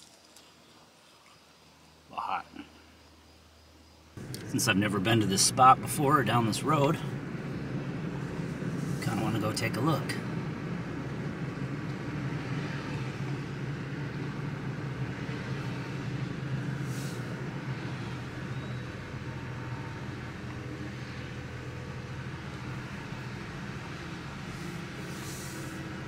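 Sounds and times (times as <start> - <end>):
road and tyre noise: 0.0 - 26.0
pickup engine hum: 4.2 - 26.0.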